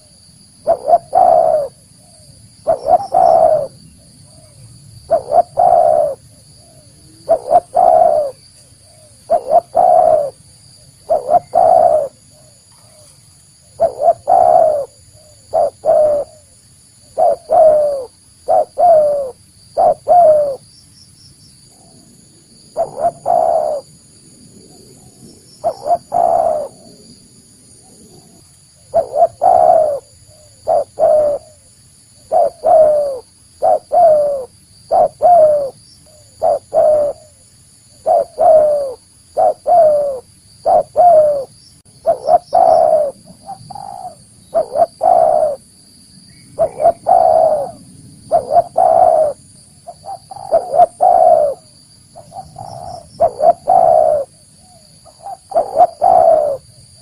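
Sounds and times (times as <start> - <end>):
dove cooing: 0.0 - 20.7, 22.6 - 24.0, 24.6 - 45.7, 46.5 - 57.0.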